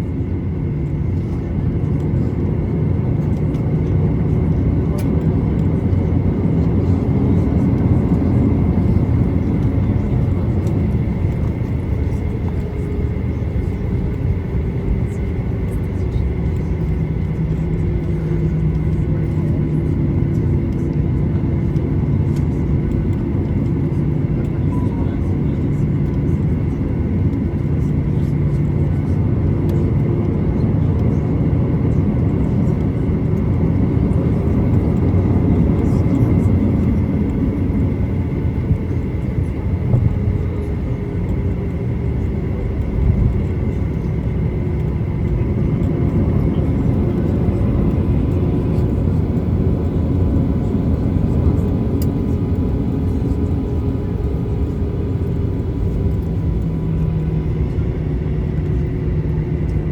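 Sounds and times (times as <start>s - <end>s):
jet engines idling in cabin: 0.0s - 59.9s.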